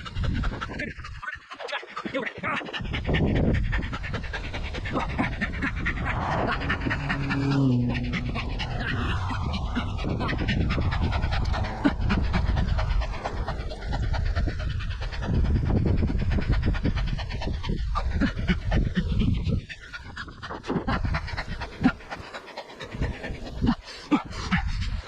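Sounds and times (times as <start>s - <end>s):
person panting: 0.0s - 25.0s
steady low rumble: 2.7s - 23.8s.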